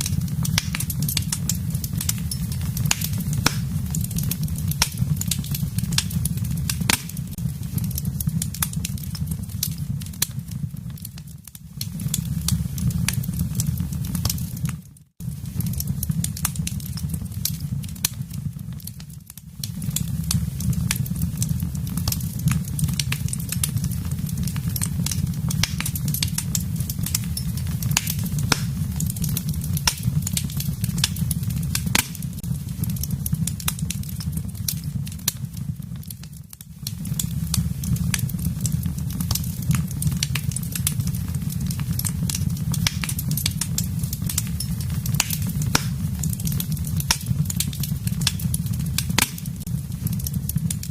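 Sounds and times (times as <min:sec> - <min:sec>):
fire rumbling: 0:00.0 - 0:50.9
wood crackling and popping: 0:00.0 - 0:50.9.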